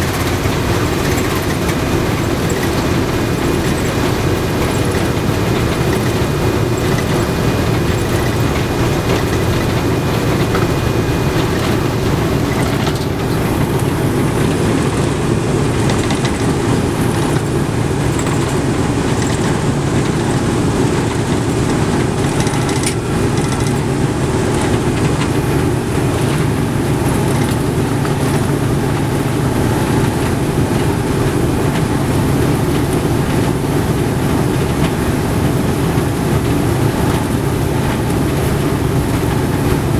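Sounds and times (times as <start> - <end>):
radial aircraft engines running: 0.0 - 39.9.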